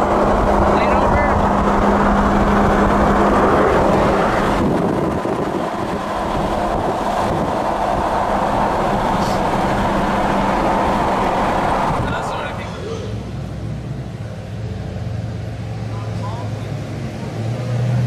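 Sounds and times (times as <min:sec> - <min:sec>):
low hum: 0:00.0 - 0:16.8
highway traffic at speed: 0:00.0 - 0:18.0.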